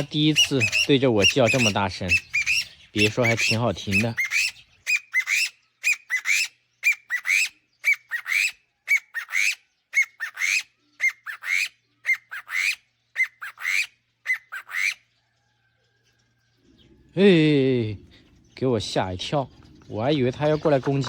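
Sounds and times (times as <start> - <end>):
bird calling loudly: 0.0 - 15.5, 16.6 - 21.0.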